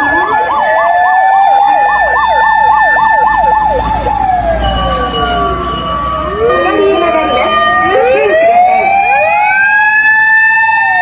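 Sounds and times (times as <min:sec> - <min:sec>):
electronic siren warble: 0:00.0 - 0:11.0
fire truck engine running: 0:00.0 - 0:11.0
mechanical motor siren wailing: 0:00.0 - 0:11.0.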